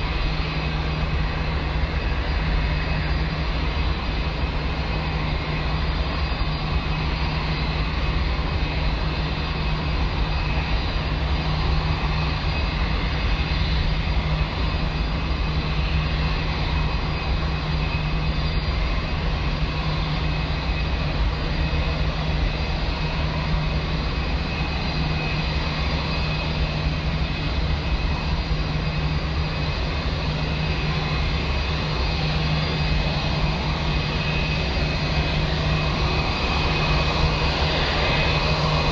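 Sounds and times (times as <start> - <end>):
jet engines idling: 0.0 - 38.9.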